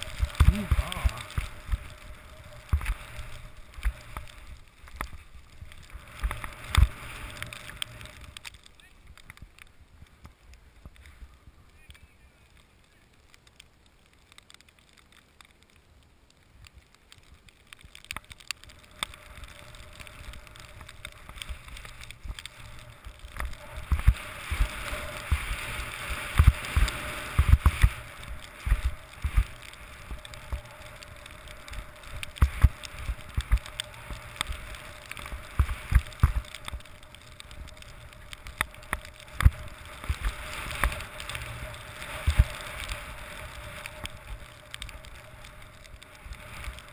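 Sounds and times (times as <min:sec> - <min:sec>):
skis rushing through snow: 0:00.0 - 0:12.6, 0:17.2 - 0:46.9
skis thumping on bumps: 0:00.0 - 0:12.6, 0:17.2 - 0:46.9.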